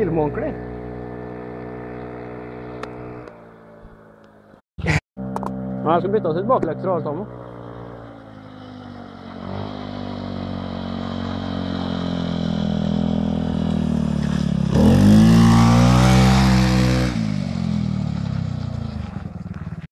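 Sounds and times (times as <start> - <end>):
scooter engine passing by: 0.0 - 4.5, 5.2 - 19.9.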